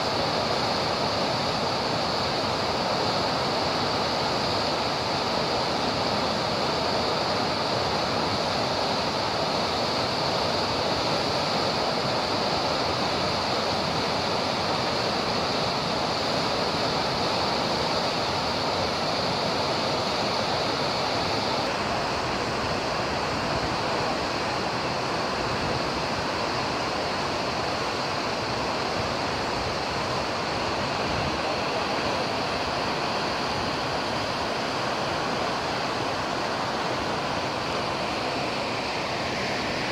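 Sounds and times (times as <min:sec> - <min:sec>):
water rushing through sluice gate: 0:00.0 - 0:39.9.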